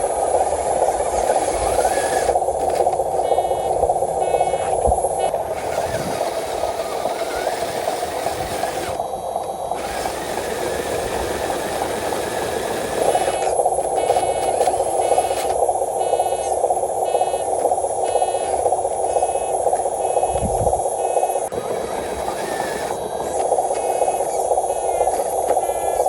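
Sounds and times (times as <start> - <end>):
toy truck motor whirring: 0.0 - 26.0.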